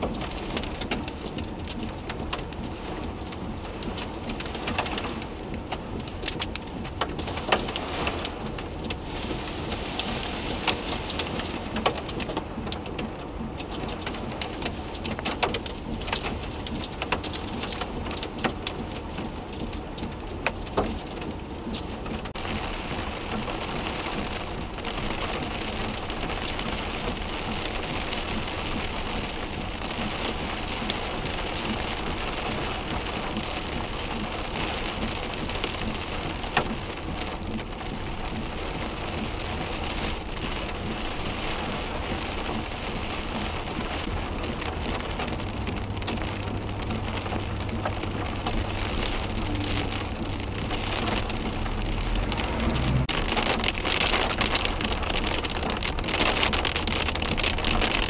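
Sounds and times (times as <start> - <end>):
heavy rain on road: 0.0 - 58.0.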